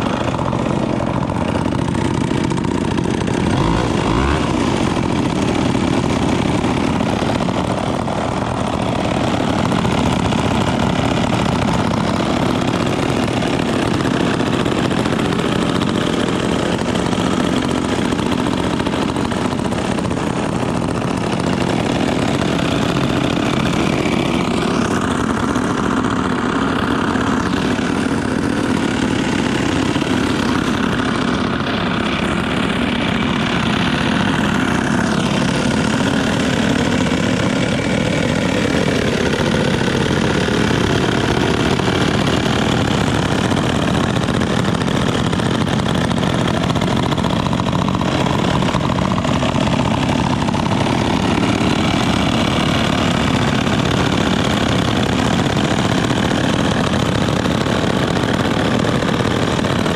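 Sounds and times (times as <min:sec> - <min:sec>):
chainsaws idling: 0:00.0 - 0:59.9.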